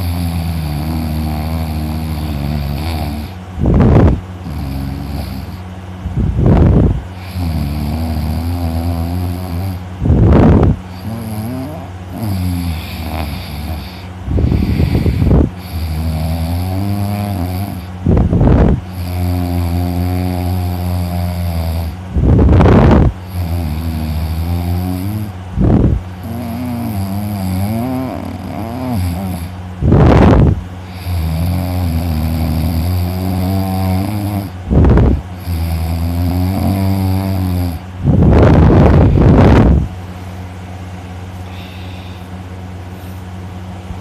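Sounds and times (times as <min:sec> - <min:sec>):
person snoring heavily: 0:00.0 - 0:05.7, 0:06.4 - 0:39.9, 0:41.4 - 0:42.4.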